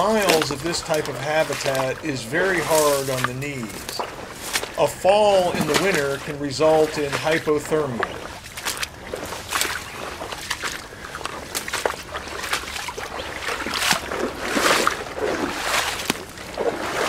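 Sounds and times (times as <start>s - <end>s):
footsteps sloshing through water and mud: 0.0s - 17.0s.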